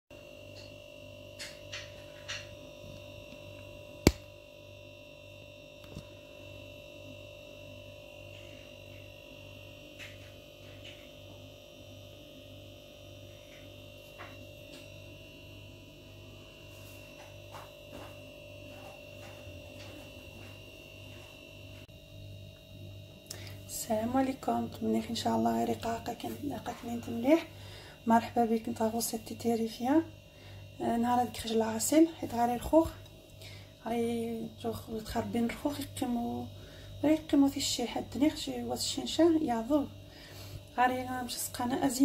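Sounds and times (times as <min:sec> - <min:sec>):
electrical hum: 0:00.1 - 0:42.0.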